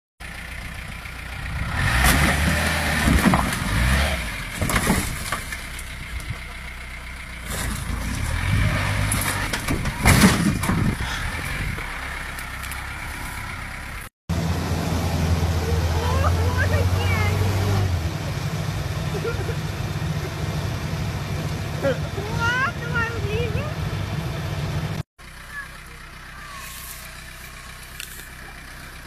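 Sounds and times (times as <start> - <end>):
off-road vehicle engine revving: 0.2 - 29.0.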